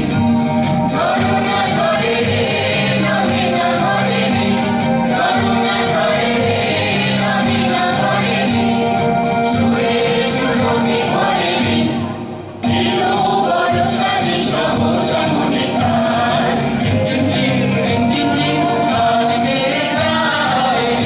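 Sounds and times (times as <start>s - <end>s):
song with singing and beat: 0.0s - 21.0s.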